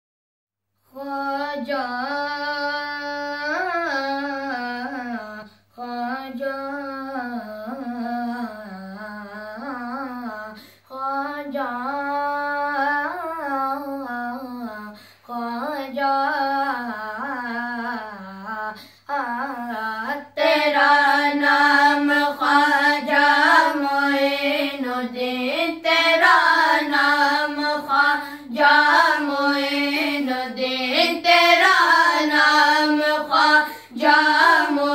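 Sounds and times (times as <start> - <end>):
boys singing in unison: 0.9 - 34.9.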